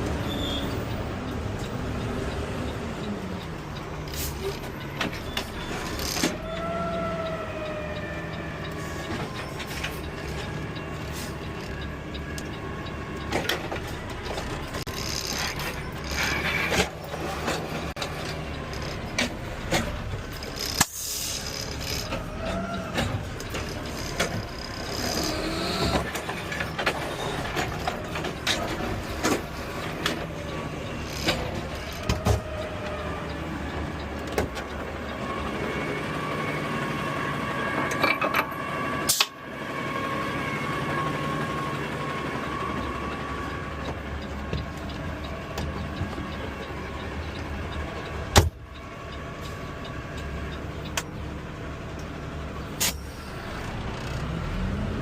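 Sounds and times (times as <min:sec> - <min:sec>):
garbage truck running: 0:00.0 - 0:55.0.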